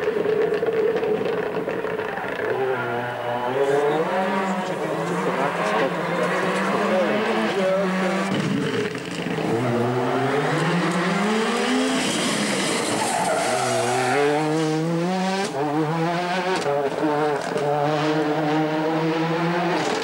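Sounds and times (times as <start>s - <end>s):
rally car engine accelerating: 0.0s - 20.0s.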